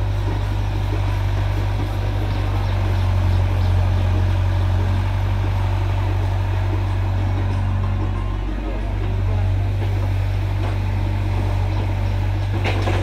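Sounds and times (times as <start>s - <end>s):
diesel engines humming: 0.0s - 13.0s.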